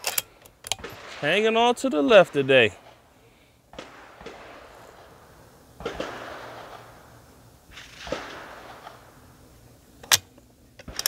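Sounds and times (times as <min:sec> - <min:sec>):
rifle shots with rolling echo: 0:00.0 - 0:11.0.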